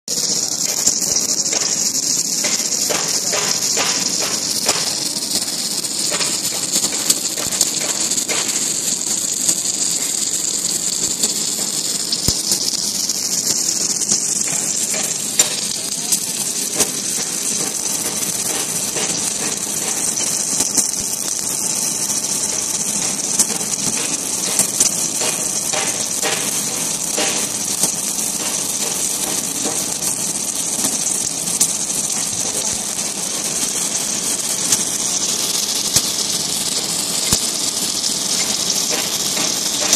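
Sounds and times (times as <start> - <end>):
arc welding hiss and crackles: 0.0 - 39.9.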